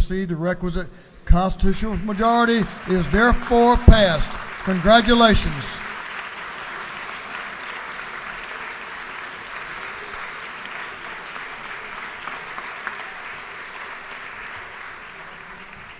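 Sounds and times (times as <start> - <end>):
crowd applauding: 2.0 - 15.9.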